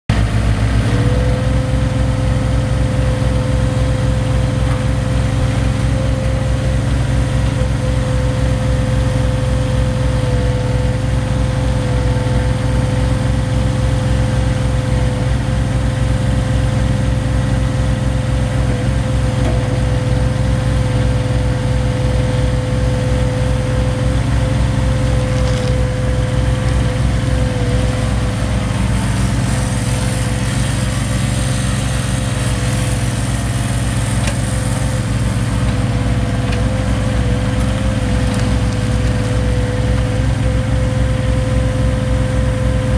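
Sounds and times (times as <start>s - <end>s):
mini skid steer engine running: 0.1s - 42.9s.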